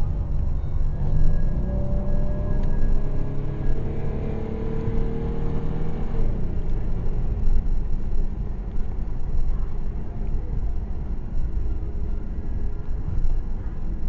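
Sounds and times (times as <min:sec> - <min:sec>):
car engine low rumble: 0:00.0 - 0:14.0
faint whine: 0:00.0 - 0:14.0.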